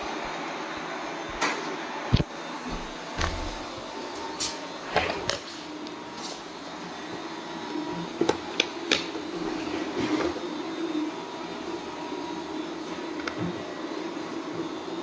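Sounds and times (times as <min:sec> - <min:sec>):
robot vacuum motor hum: 0:02.1 - 0:15.0.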